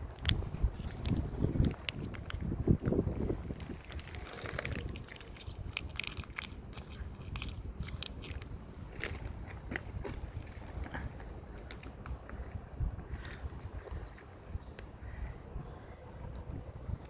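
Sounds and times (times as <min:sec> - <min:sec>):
cats crunching food: 0:00.0 - 0:14.3
wind rumble on microphone: 0:00.0 - 0:17.0.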